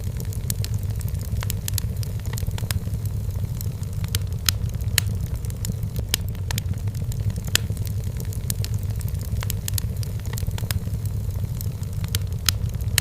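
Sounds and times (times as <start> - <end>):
firewood crackling and popping: 0.0 - 13.0
flames rumbling: 0.0 - 13.0.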